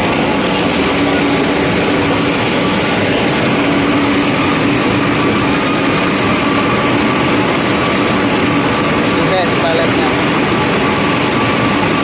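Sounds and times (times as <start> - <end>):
constant motor hum: 0.0 - 12.0
machinery mechanical din: 0.0 - 12.0.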